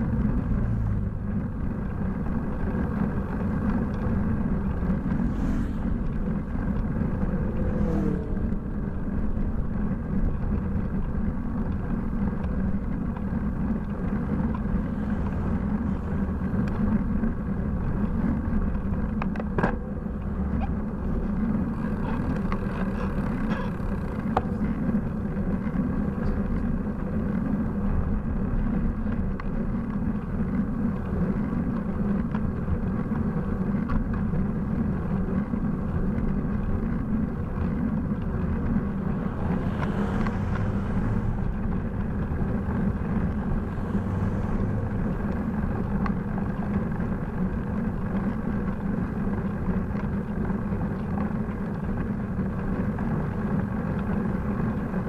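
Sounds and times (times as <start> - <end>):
car passing: 0.0 - 28.9, 35.7 - 55.0
bicycle road noise: 0.0 - 55.0.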